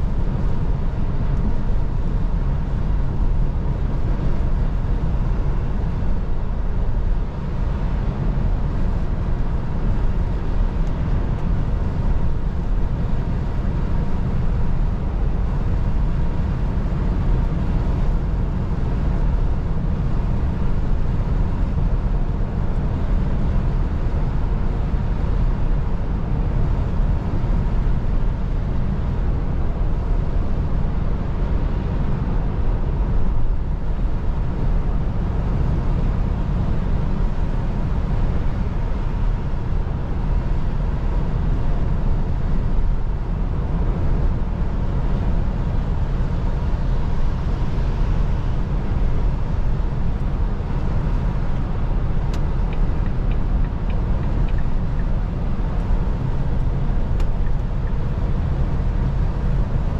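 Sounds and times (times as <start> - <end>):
truck engine and tyre drone: 0.0 - 59.9.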